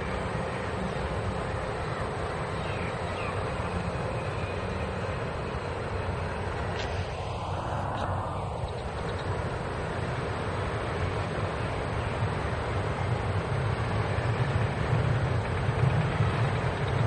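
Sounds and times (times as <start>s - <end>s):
electric train rolling: 0.0s - 17.0s.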